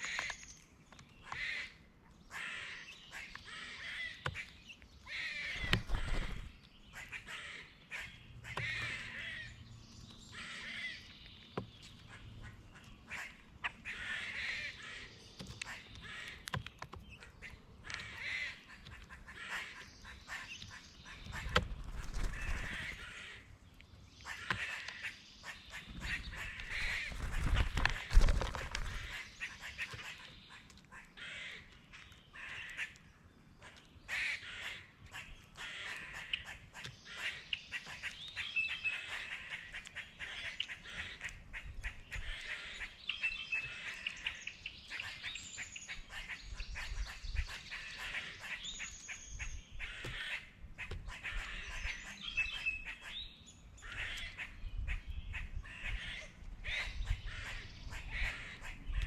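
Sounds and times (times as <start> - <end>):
birds giving harsh calls: 0.0 - 59.0.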